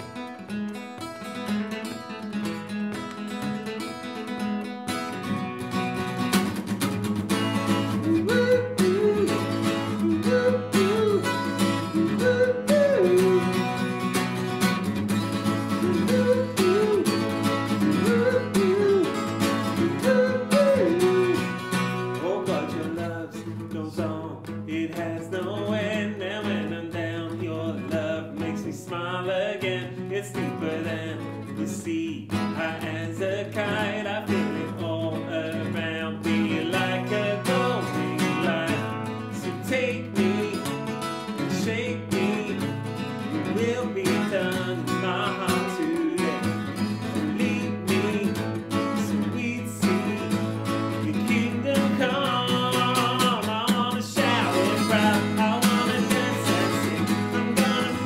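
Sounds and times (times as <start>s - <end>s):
acoustic guitar playing: 0.0s - 58.0s
voices singing: 7.7s - 14.4s, 15.5s - 23.9s, 24.7s - 58.0s.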